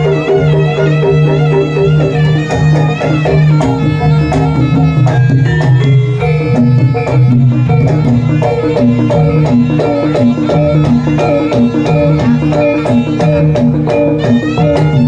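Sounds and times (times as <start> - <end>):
drumming: 0.0 - 15.0
reedy wind melody: 0.0 - 15.0.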